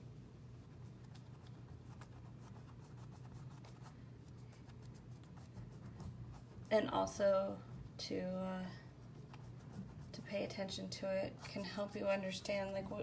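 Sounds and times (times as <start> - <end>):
paint brushing and scraping on canvas: 0.6 - 13.0.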